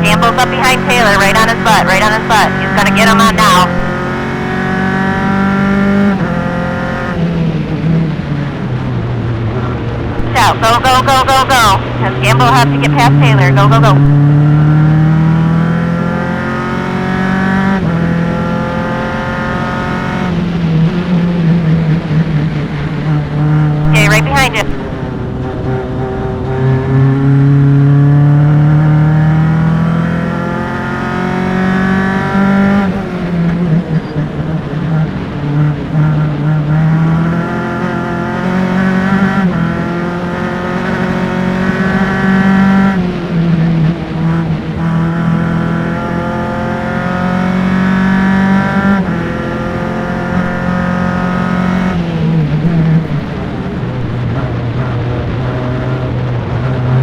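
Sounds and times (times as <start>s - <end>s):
race car engine: 0.0s - 57.0s.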